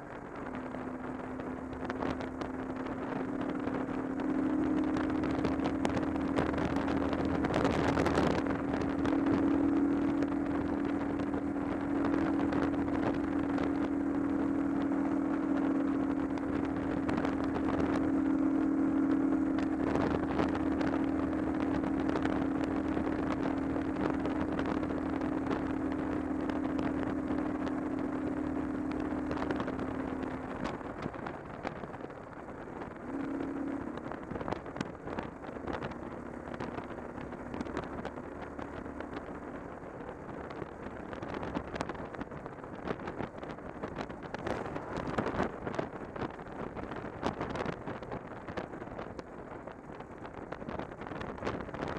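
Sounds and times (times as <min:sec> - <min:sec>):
motorcycle engine running: 0:00.0 - 0:51.9
wind rushing past microphone: 0:00.0 - 0:51.9.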